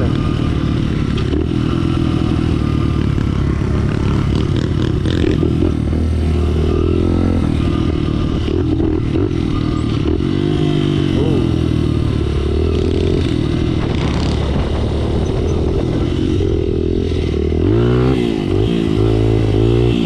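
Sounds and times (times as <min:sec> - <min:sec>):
small dirt bike engines: 0:00.0 - 0:20.0.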